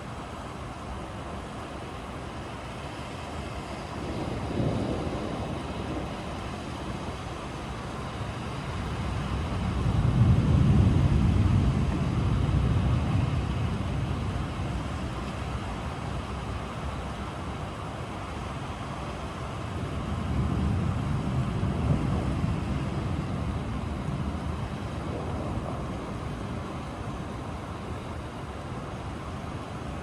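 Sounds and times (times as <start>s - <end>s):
steady rain: 0.0s - 30.0s
thunder rumbling: 3.7s - 30.0s.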